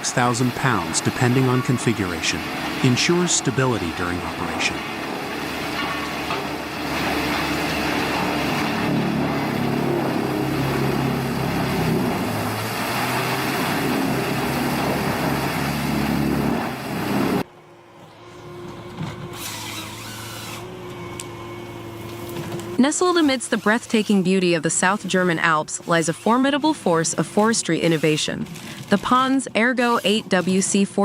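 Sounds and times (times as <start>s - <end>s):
machine hum: 0.0s - 29.3s
wood grinder running: 0.0s - 30.8s.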